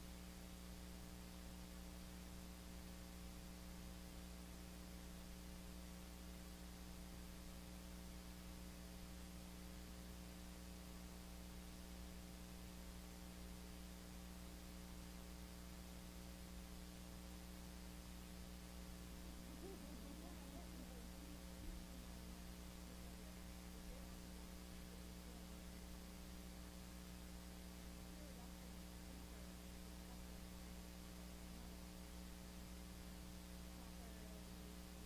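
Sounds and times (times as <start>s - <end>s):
low mains hum: 0.0s - 35.0s.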